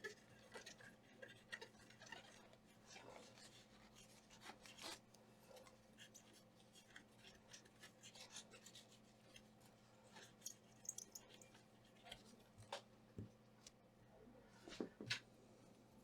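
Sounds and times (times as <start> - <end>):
faint scratching and light ticks: 0.0 - 13.8.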